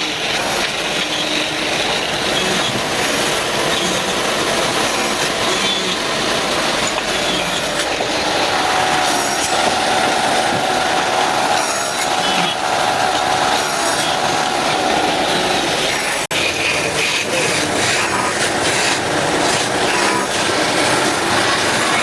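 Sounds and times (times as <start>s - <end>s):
woodworking machinery running: 0.0s - 22.0s.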